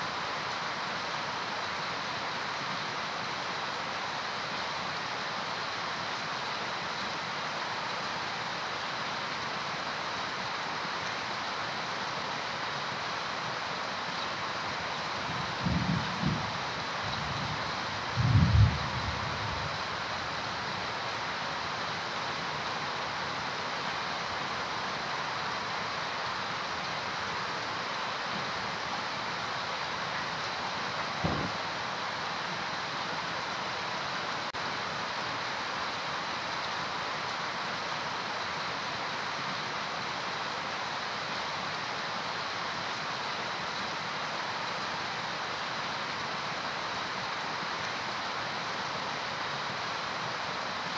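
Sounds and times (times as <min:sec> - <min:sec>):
heavy rain on foliage: 0:00.0 - 0:50.9.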